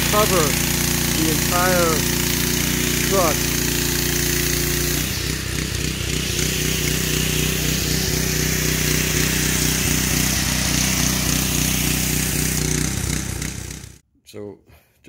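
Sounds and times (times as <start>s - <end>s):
hiss of spray: 0.0s - 12.5s
pressure washer engine pulsing: 0.0s - 14.0s.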